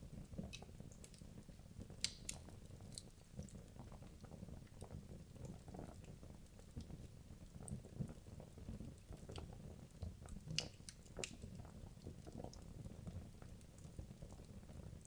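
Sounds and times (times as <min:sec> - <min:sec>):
wood crackling and popping: 0:00.0 - 0:15.0.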